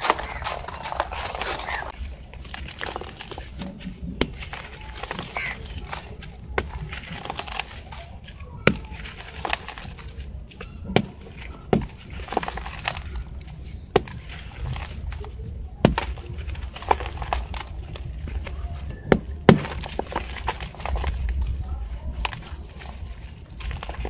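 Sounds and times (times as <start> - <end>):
cement lumps cracking: 0.0 - 24.0
gritty crunching and sifting: 0.0 - 24.0.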